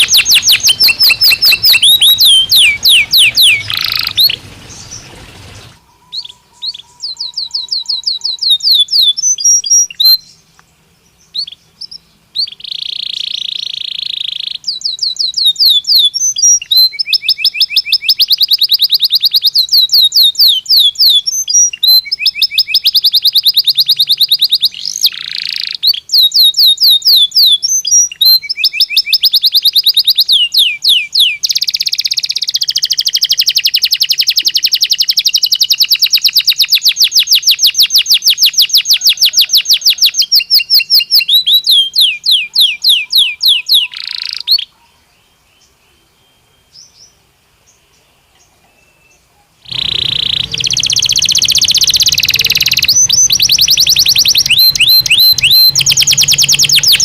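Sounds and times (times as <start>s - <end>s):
canary singing: 0.0s - 10.6s, 11.2s - 44.8s, 48.8s - 57.0s.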